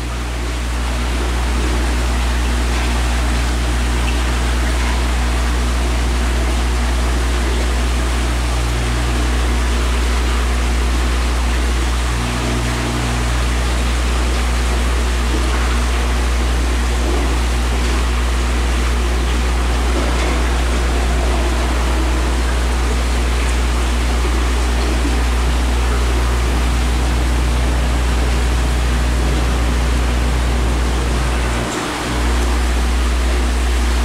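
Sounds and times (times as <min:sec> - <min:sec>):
aquarium pump humming: 0:00.0 - 0:34.0
water rushing in tank: 0:00.0 - 0:34.0.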